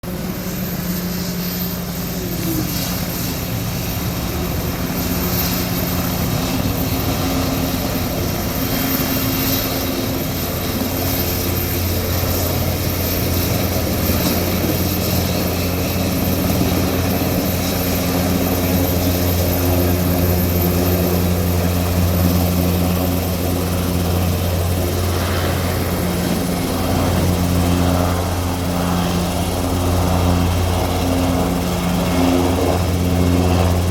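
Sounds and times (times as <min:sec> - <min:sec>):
helicopter rotor drone: 0:00.0 - 0:33.9.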